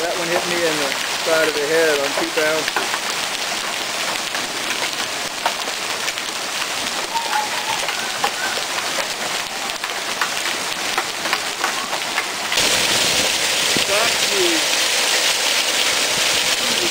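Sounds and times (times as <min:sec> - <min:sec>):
hailstones ticking: 0:00.0 - 0:16.9
heavy rain hissing: 0:00.0 - 0:16.9.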